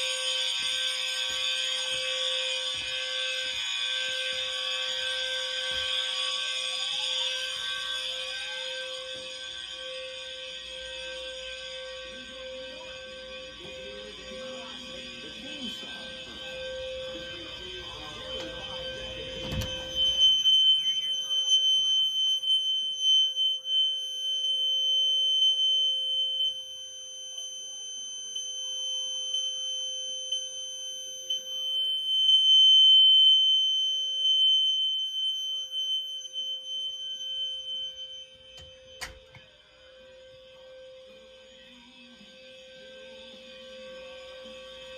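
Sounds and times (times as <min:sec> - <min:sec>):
fire alarm steady tone: 0:00.0 - 0:44.9.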